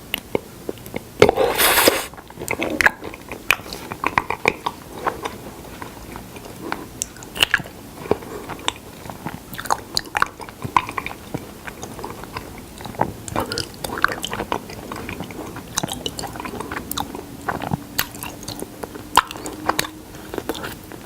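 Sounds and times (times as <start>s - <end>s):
person chewing: 0.1s - 21.0s.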